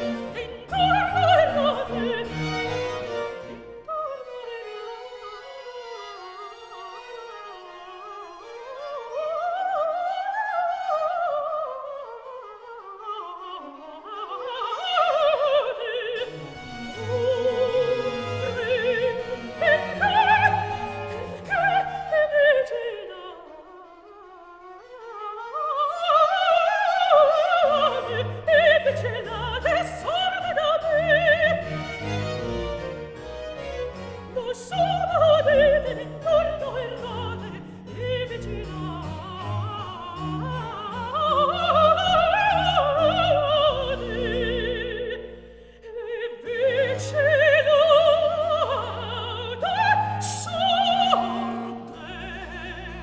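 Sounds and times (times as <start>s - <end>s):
soprano singing opera: 0.0s - 5.6s, 8.8s - 23.9s, 24.9s - 32.4s, 34.3s - 53.0s
orchestra: 0.0s - 53.0s.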